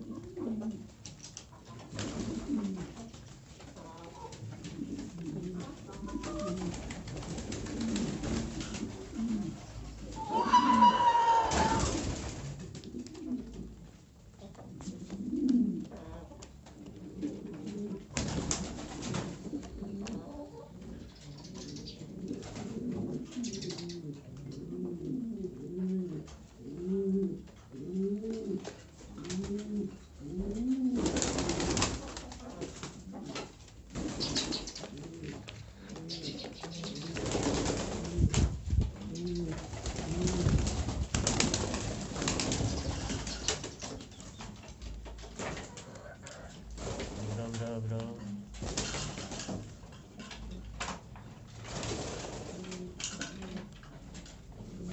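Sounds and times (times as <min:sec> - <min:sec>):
pigeons cooing: 0:00.0 - 0:01.0, 0:01.6 - 0:03.1, 0:03.8 - 0:18.3, 0:19.3 - 0:44.6, 0:45.5 - 0:46.8, 0:52.2 - 0:53.8, 0:54.5 - 0:54.9.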